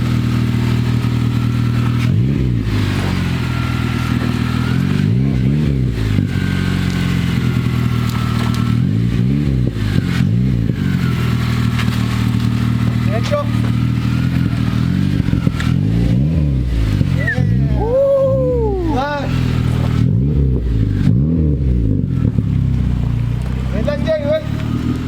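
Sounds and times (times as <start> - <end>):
engine idling and revving: 0.0 - 25.0.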